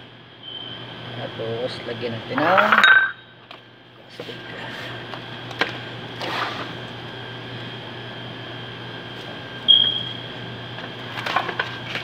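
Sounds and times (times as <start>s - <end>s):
ventilation hum: 0.0s - 12.0s.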